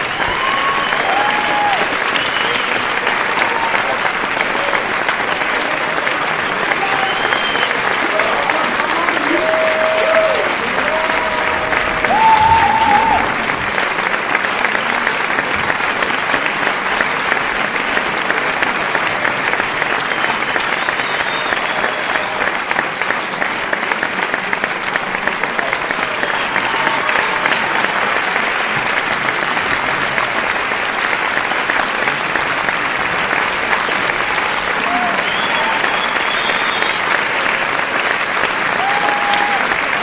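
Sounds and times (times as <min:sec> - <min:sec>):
crowd applauding: 0:00.0 - 0:40.0.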